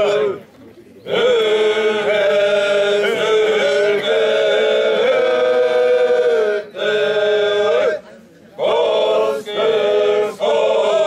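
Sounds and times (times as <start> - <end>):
men's choir singing: 0.0 - 0.4, 1.0 - 11.0.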